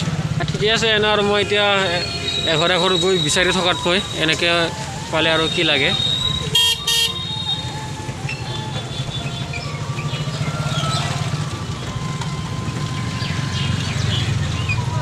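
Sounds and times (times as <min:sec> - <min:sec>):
e-rickshaw rumble: 0:00.0 - 0:15.0.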